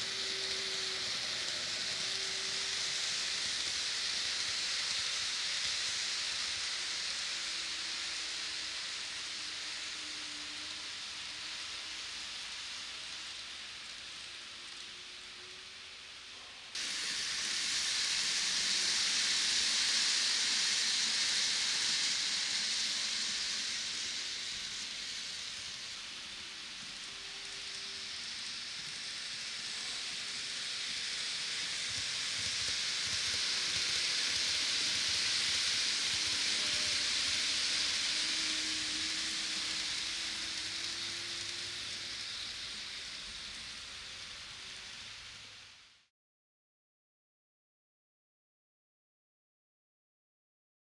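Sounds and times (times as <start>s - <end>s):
model train wheels hissing on rail: 0.0s - 46.1s
small train motor whirring: 0.0s - 46.1s.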